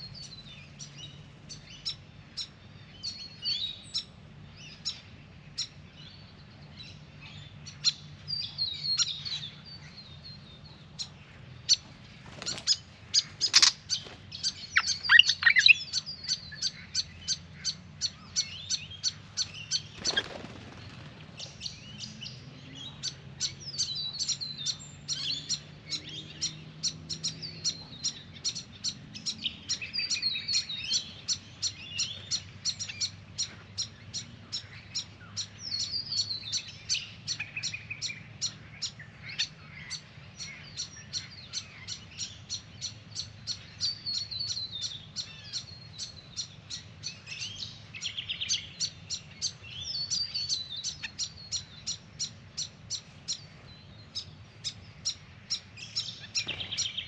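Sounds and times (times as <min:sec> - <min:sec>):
small songbirds chipping: 0:00.0 - 0:57.0.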